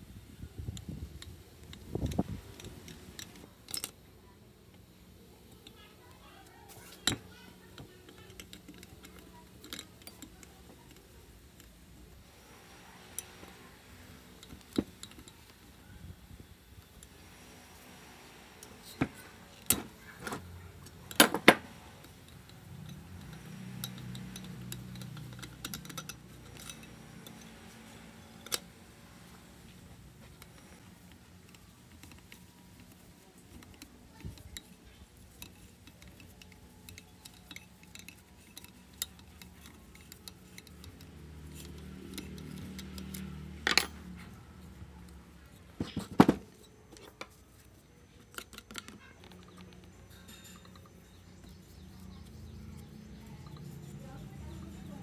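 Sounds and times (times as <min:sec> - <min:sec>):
low background hum: 0:00.0 - 0:55.0
metal tools clinking and knocking: 0:01.0 - 0:04.1, 0:06.7 - 0:12.0, 0:18.7 - 0:55.0.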